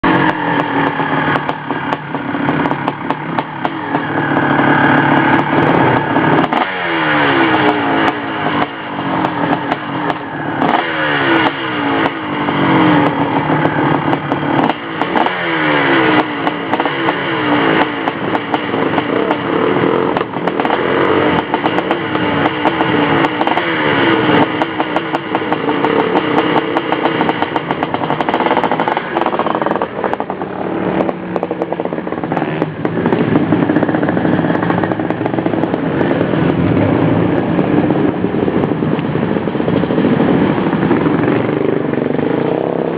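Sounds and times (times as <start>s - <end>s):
dirt bike engine revving: 0.0s - 38.8s, 40.0s - 42.9s.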